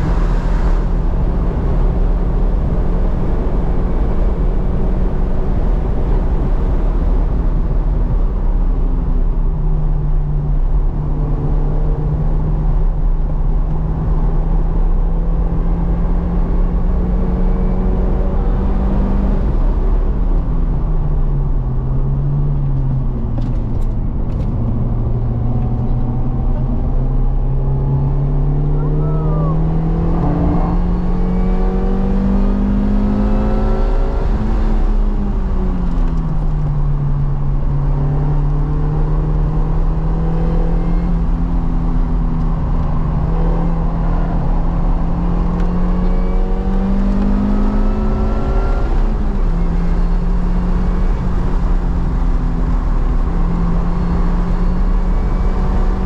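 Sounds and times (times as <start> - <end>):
car engine revving at speed: 0.0 - 56.0.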